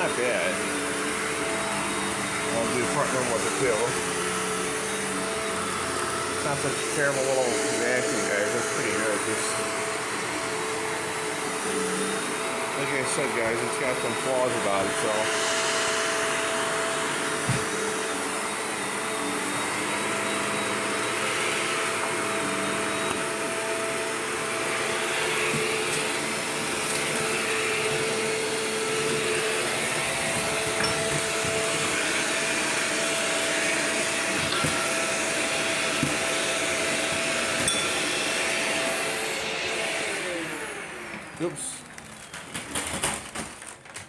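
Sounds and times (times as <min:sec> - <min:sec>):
vacuum cleaner motor whine: 0:00.0 - 0:44.0.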